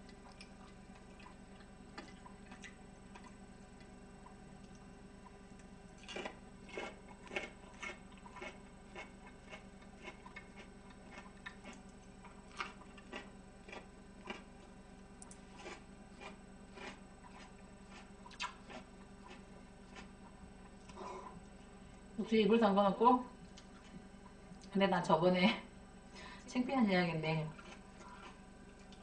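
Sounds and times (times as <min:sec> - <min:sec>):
chewing crunchy cabbage: 0:00.0 - 0:22.2, 0:23.4 - 0:24.7, 0:27.4 - 0:29.0
faint steady hum: 0:00.0 - 0:29.0.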